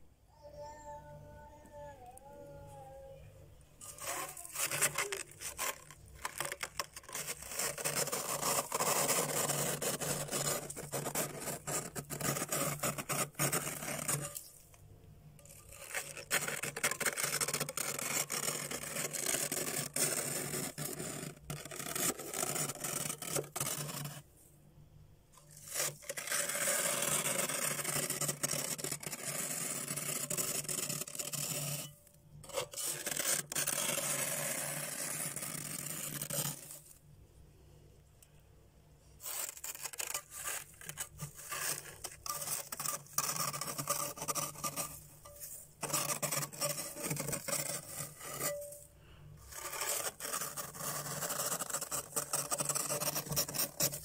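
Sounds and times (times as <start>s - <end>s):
scraper blade scraping ice: 3.8s - 14.6s, 15.4s - 24.3s, 25.4s - 37.0s, 39.2s - 54.0s.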